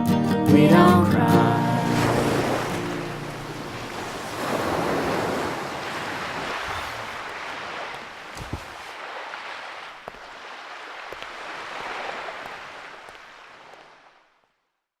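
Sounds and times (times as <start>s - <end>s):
ocean surf washing: 1.2s - 14.3s.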